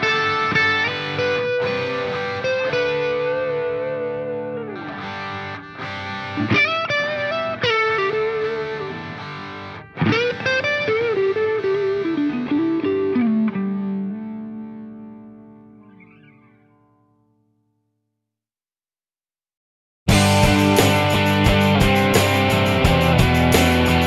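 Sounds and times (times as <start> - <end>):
distorted electric guitar: 0.0 - 17.1, 20.1 - 24.0.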